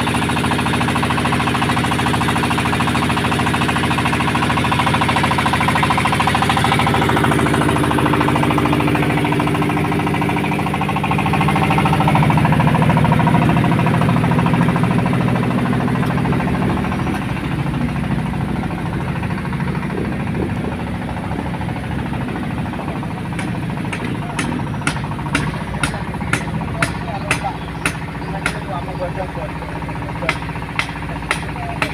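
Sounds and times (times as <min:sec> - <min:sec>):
engine knocking: 0:00.0 - 0:31.9.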